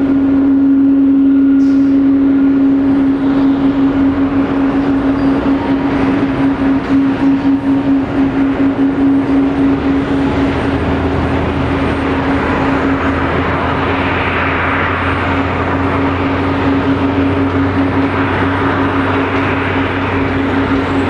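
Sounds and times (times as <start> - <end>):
jet engines droning: 0.0 - 21.0.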